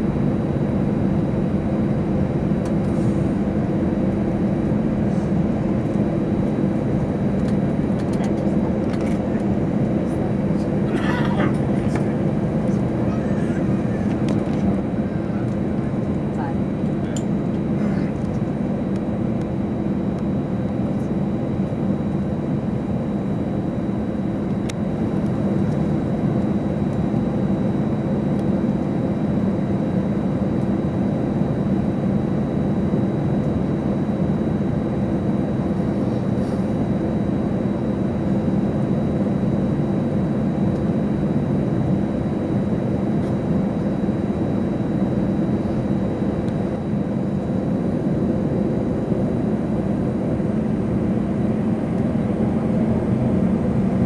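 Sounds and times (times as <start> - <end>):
jet engines humming: 0.0 - 54.0.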